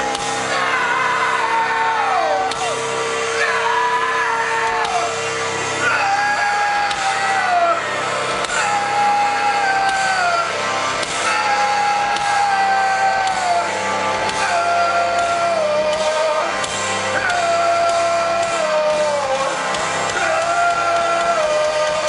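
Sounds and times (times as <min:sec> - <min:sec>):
distorted electric guitar: 0:00.0 - 0:22.0
drums: 0:00.0 - 0:22.0
live rock band playing: 0:00.0 - 0:22.0.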